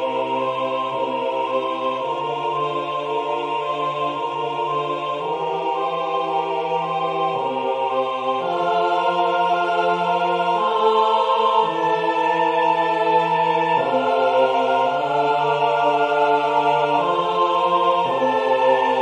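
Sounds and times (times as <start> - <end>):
a cappella choir singing: 0.0 - 19.0.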